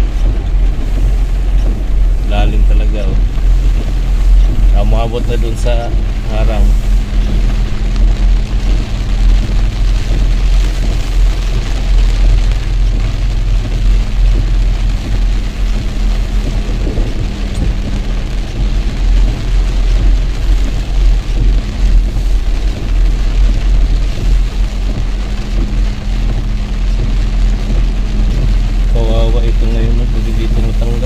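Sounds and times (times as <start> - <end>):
car engine and tyres rumbling: 0.0 - 31.0
heavy rain on car: 0.0 - 31.0.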